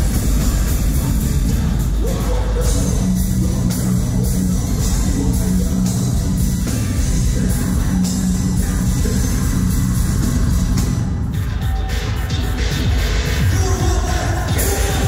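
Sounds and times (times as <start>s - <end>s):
rock band playing loud: 0.0s - 15.0s.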